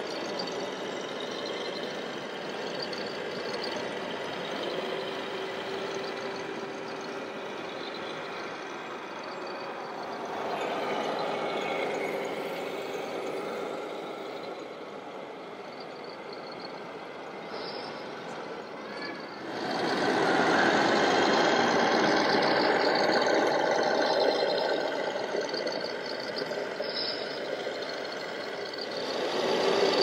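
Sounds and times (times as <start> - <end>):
simulated diesel truck engine: 0.0 - 30.0.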